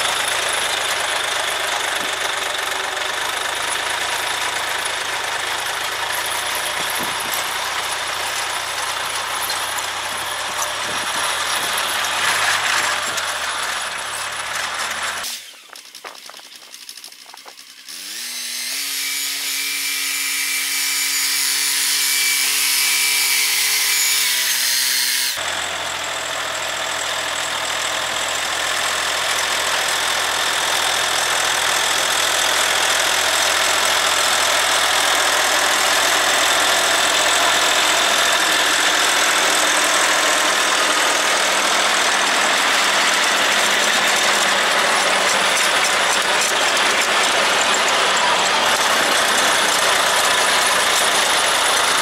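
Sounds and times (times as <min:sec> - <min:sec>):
rotary tiller churning soil: 0:00.0 - 0:20.4, 0:25.4 - 0:52.0
tractor engine revving: 0:00.0 - 0:20.7, 0:25.0 - 0:52.0.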